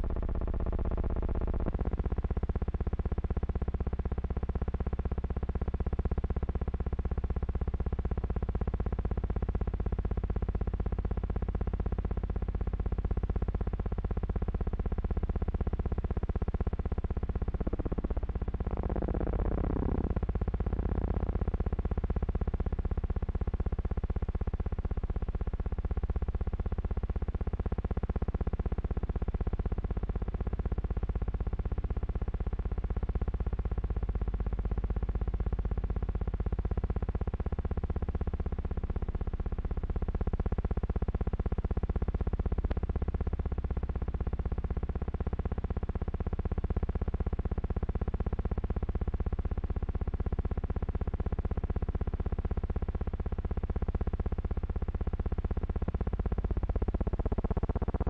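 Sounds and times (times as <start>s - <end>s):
low hum with faint buzz: 0.0s - 58.0s.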